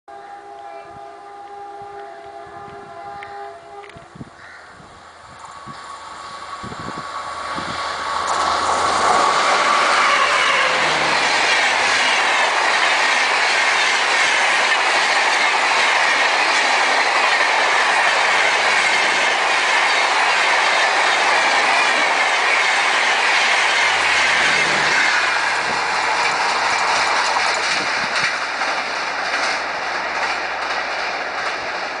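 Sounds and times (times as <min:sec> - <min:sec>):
electric locomotive whine: 0:00.1 - 0:32.0
train wheels rushing on rails: 0:01.4 - 0:32.0.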